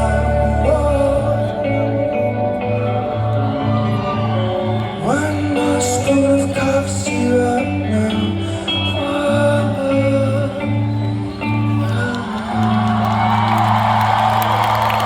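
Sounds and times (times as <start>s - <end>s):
crowd cheering: 0.0s - 8.1s, 9.1s - 15.0s
person singing: 0.0s - 13.0s.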